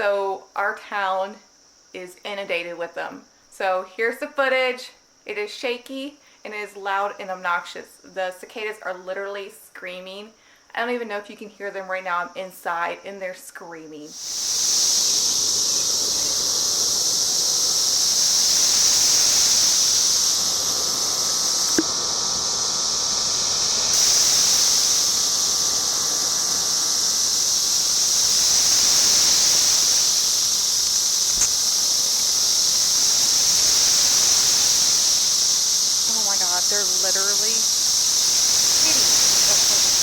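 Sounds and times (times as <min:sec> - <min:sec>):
cicadas screaming: 0:00.0 - 0:40.0.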